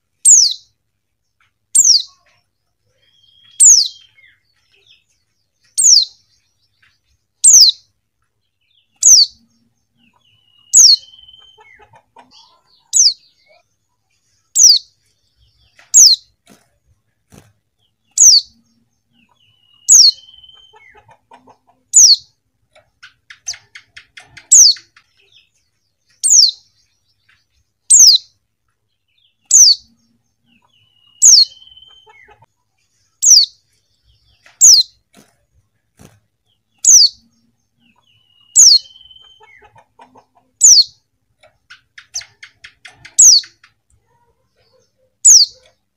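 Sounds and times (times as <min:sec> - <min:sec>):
soft bird twittering: 0:00.2 - 0:16.4, 0:17.8 - 0:28.4, 0:29.0 - 0:35.1, 0:36.5 - 0:45.8.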